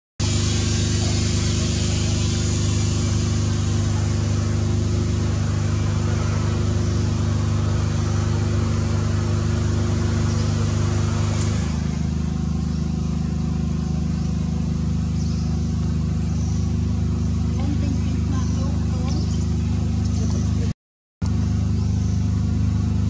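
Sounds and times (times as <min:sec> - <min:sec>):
engine humming at idle: 0:00.2 - 0:23.0.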